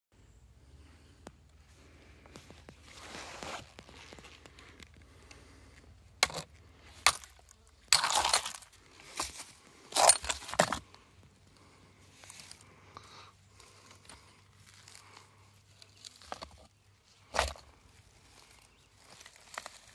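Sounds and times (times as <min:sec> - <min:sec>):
rock scraping and crunching: 0:01.7 - 0:19.9.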